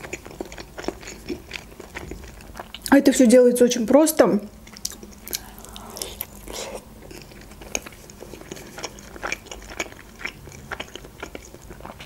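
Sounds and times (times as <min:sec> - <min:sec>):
person chewing food: 0:00.0 - 0:02.9, 0:04.6 - 0:12.0.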